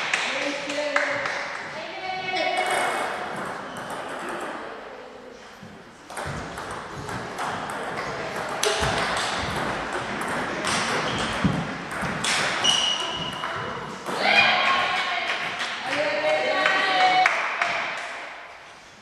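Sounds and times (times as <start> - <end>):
table tennis ball rally: 0.0 - 4.9, 6.0 - 18.4.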